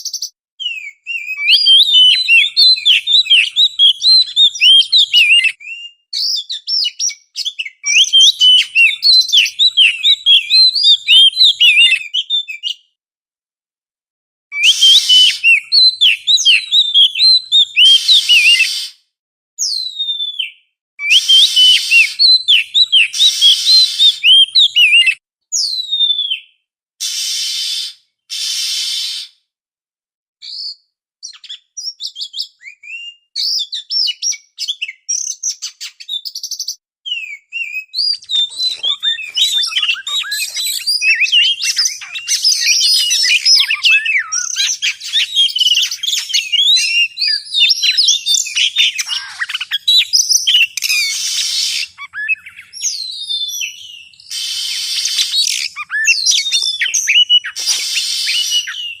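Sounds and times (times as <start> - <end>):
magpie-robin song: 0.0 - 12.9, 14.5 - 19.0, 19.6 - 29.3, 30.4 - 59.0.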